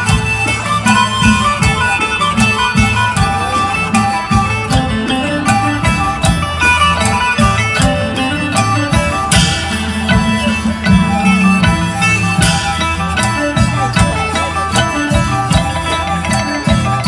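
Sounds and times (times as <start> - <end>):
plucked lutes melody: 0.0 - 17.0
steady drumbeat: 0.0 - 17.0.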